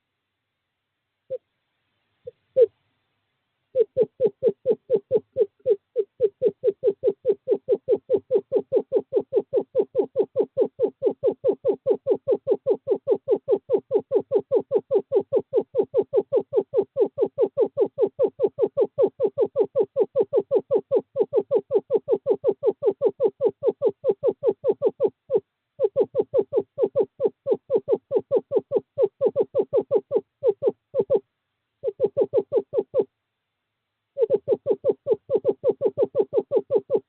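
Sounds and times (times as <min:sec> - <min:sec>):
screech owl trill of hoots: 0:02.2 - 0:02.8, 0:03.7 - 0:31.2, 0:31.8 - 0:33.1, 0:34.2 - 0:37.0.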